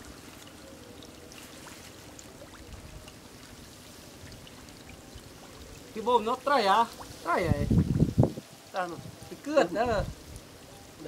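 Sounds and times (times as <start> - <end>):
muddy water sloshing and trickling: 0.0 - 11.0.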